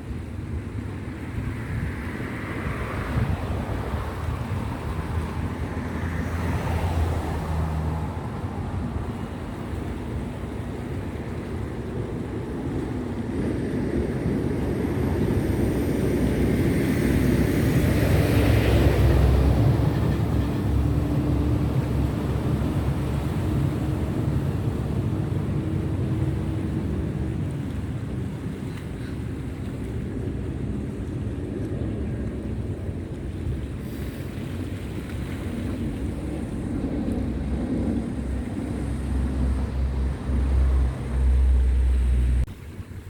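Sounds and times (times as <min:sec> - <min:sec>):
ship engine rumble: 0:00.1 - 0:43.0.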